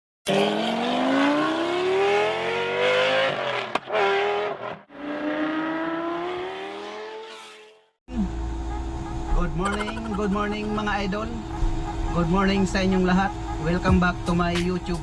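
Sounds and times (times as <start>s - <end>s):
car engine accelerating: 0.3s - 15.0s.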